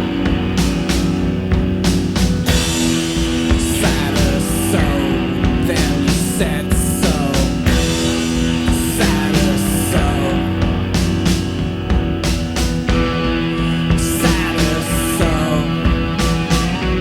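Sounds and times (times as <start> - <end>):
electric guitars sustained notes: 0.0 - 17.0
steady drum beat: 0.0 - 17.0.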